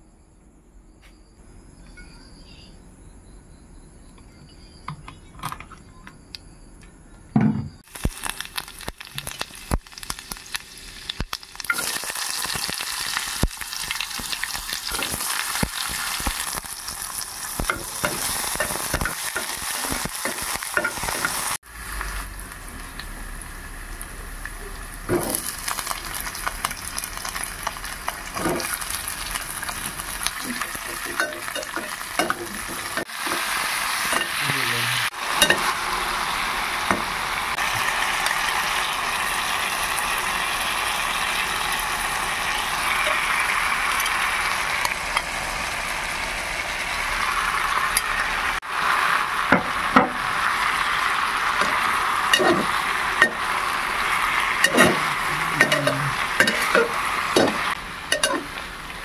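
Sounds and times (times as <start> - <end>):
curry sizzling in a pan: 7.8 - 59.0.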